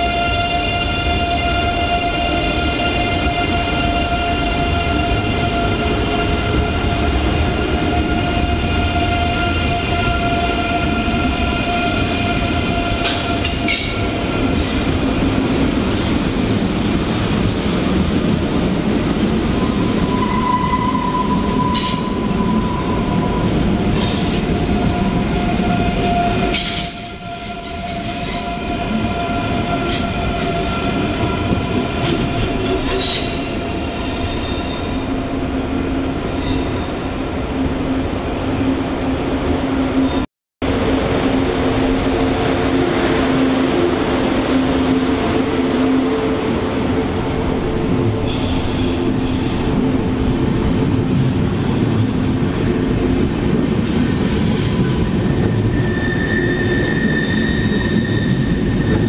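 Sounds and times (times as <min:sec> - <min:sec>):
train wheel noise on rails: 0:00.0 - 0:59.0.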